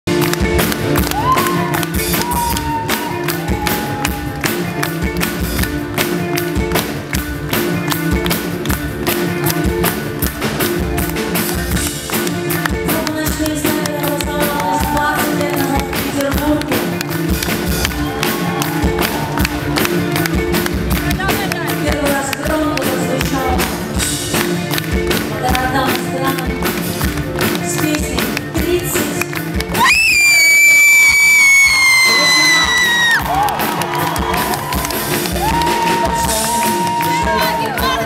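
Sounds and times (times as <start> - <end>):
live rock band playing: 0.1 - 38.0.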